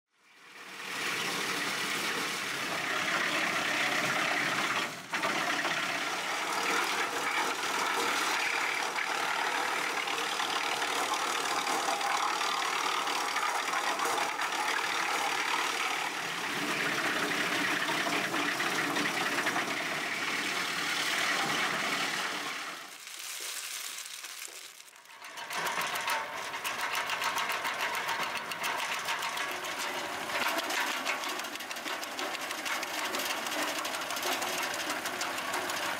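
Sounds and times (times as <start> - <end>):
wood chipper running: 0.2 - 35.9.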